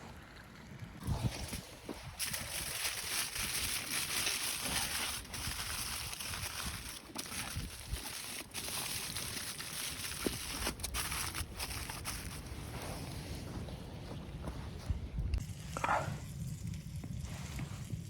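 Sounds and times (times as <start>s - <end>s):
blizzard wind blowing: 0.1s - 18.0s.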